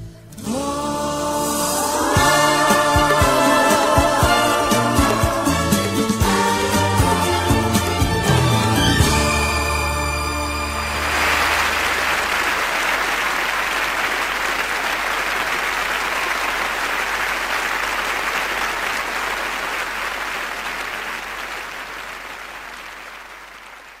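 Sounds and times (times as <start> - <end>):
audience applauding: 2.0 - 8.2, 10.6 - 24.0.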